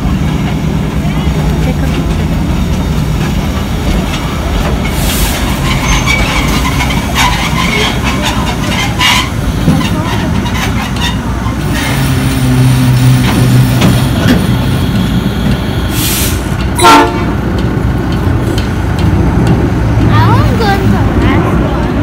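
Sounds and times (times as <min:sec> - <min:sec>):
diesel locomotive engine drone: 0:00.0 - 0:22.0
wheels clattering on rails: 0:00.0 - 0:22.0.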